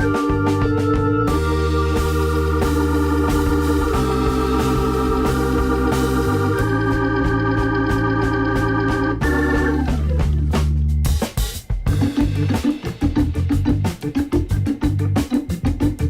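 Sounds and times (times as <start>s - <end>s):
organ chords: 0.0s - 16.0s
steady bass line: 0.0s - 16.0s.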